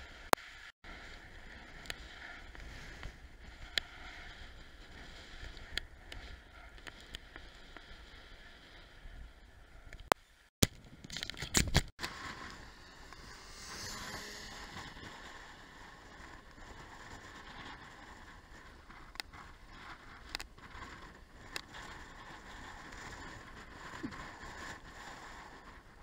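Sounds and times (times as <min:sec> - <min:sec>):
bicycle tyre rumble on gravel: 0:00.0 - 0:09.9, 0:12.0 - 0:26.0
wind: 0:00.0 - 0:26.0.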